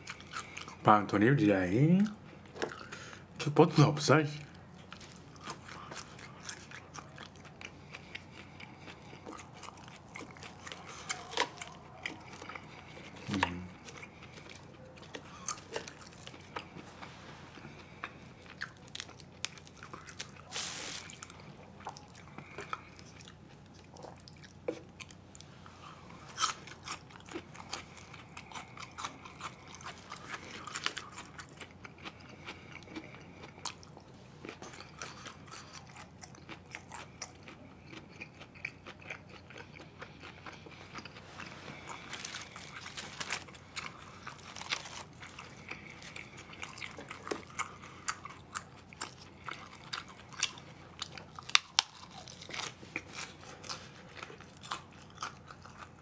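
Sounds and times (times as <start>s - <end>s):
person chewing food: 0.0s - 0.8s, 2.0s - 3.5s, 4.4s - 56.0s.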